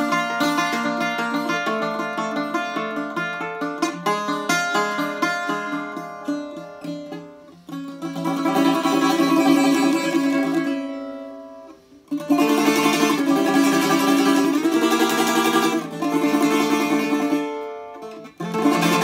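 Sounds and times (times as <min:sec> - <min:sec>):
bouzouki melody: 0:00.0 - 0:19.0.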